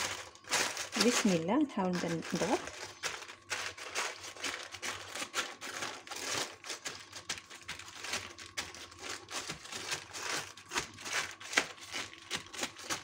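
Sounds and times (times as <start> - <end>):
baking paper crinkling: 0.0 - 13.0.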